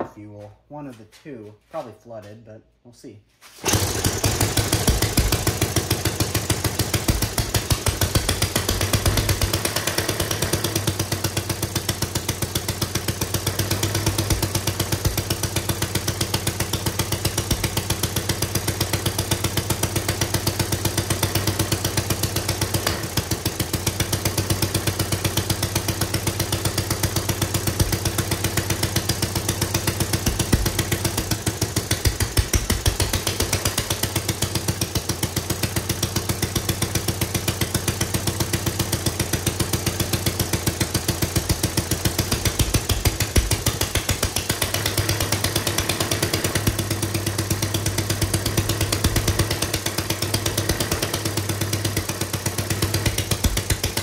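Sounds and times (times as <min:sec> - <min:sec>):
small engine running: 0:03.6 - 0:54.0.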